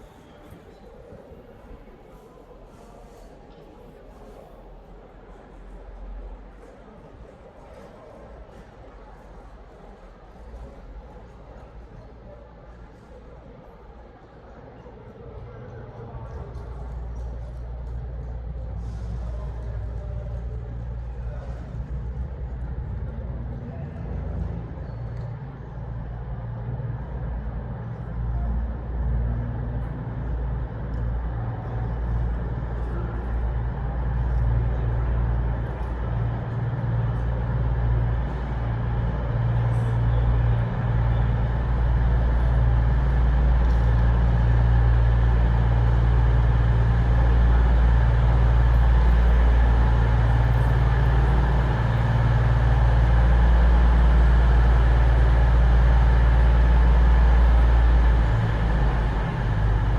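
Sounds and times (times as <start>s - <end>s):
train diesel engines humming: 0.0s - 59.9s.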